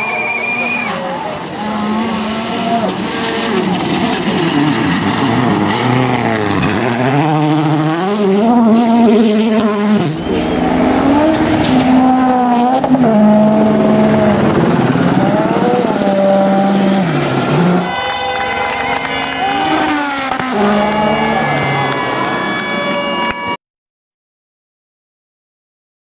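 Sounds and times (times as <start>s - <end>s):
rally car engine accelerating: 0.0s - 23.4s.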